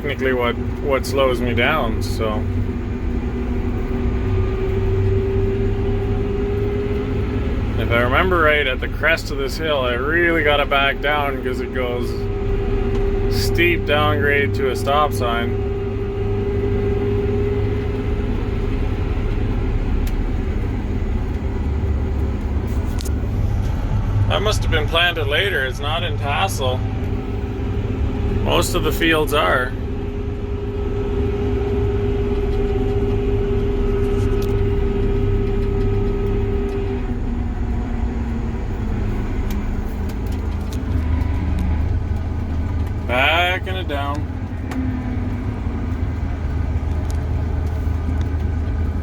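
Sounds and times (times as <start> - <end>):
heavy vehicle engine rumbling: 0.0 - 49.0.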